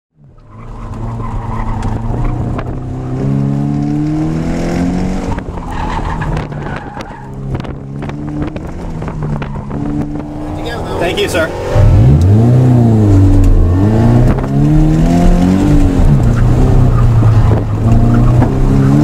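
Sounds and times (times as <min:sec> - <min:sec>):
car engine revving: 0:00.3 - 0:19.0.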